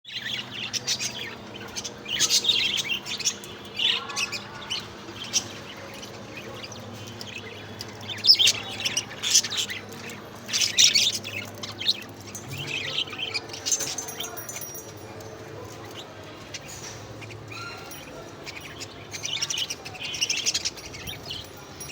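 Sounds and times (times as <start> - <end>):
budgerigars chirping and chattering: 0.1 - 21.9.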